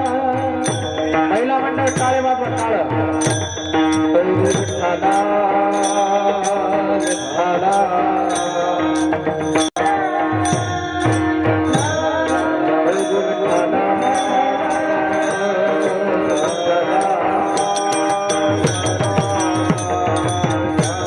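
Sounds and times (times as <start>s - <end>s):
hand cymbals clashing: 0.0s - 21.0s
person singing wavering melody: 0.0s - 21.0s.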